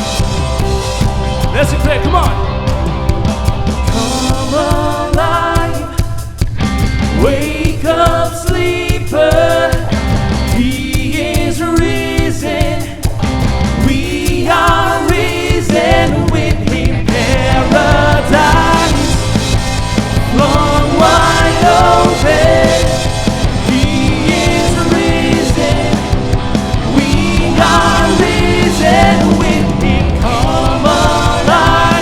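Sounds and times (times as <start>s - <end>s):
worship music with singing and band: 0.0s - 32.0s.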